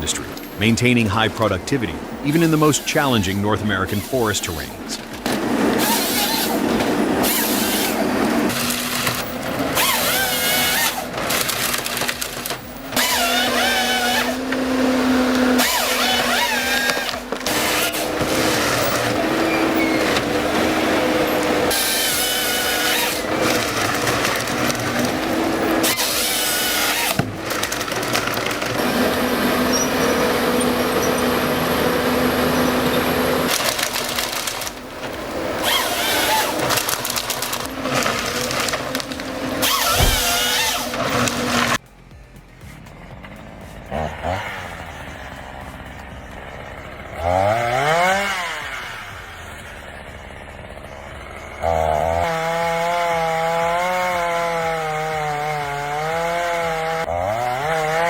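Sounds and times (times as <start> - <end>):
chainsaw cutting timber: 0.0 - 41.8, 43.5 - 58.0.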